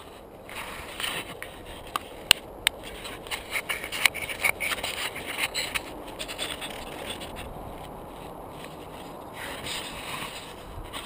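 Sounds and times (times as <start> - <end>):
hand handling camera: 0.0 - 11.0.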